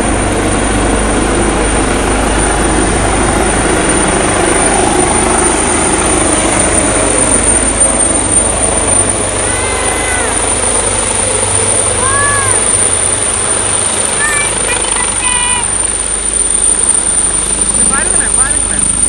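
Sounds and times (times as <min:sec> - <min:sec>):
helicopter rotor and turbine drone: 0:00.0 - 0:19.0.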